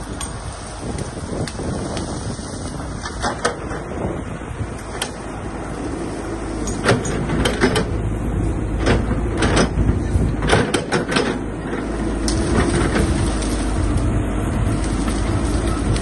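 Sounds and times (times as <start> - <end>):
excavator diesel engine: 0.0 - 16.0.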